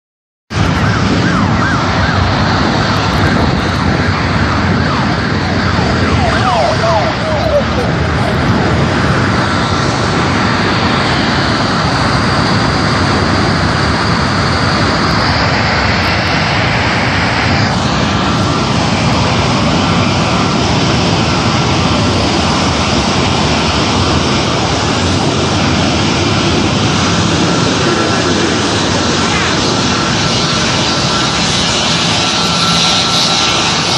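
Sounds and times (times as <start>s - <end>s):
jet engine roaring: 0.5s - 33.9s.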